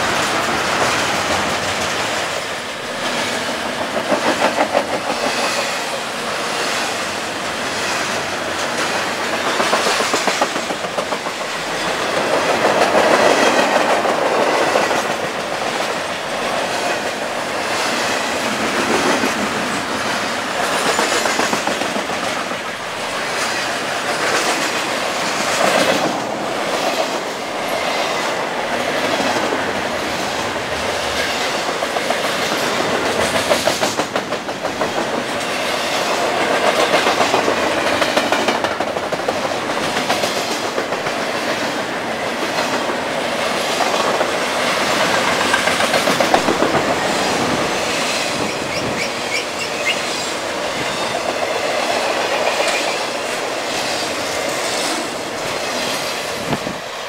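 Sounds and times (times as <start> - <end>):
wheels clacking over rail joints: 0.0 - 56.9
freight train wheels on rail: 0.0 - 57.0.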